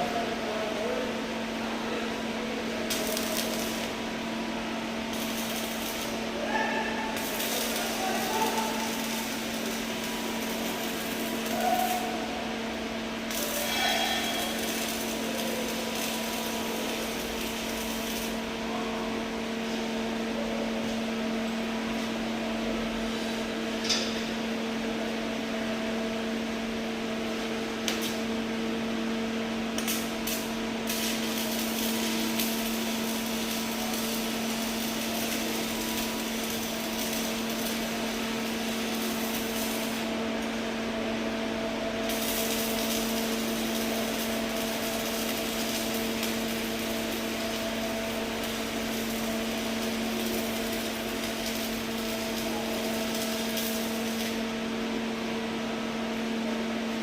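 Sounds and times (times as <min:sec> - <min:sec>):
arc welding crackle: 0:00.0 - 0:24.6, 0:25.8 - 0:57.0
welding machine hum: 0:00.0 - 0:57.0.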